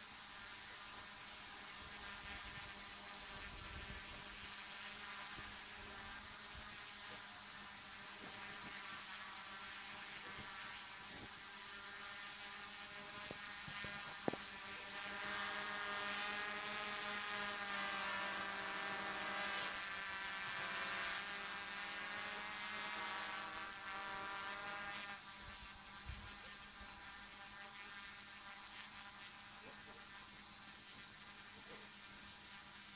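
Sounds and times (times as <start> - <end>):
quadcopter propellers buzzing: 0.0 - 32.9.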